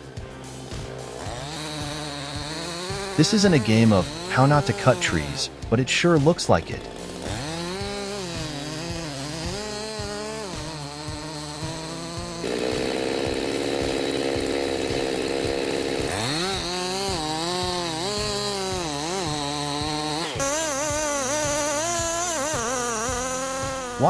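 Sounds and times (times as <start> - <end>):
chainsaw cutting and revving: 0.0 - 24.0.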